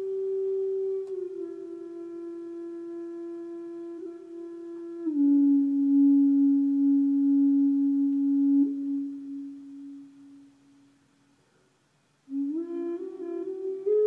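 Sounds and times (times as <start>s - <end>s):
flute holding low note: 0.0s - 11.0s, 12.3s - 14.0s.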